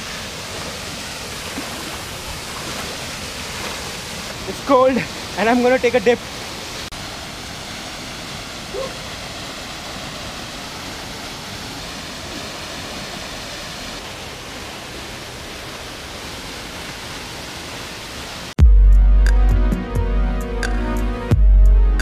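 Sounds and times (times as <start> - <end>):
waterfall rushing into pool: 0.0 - 18.6.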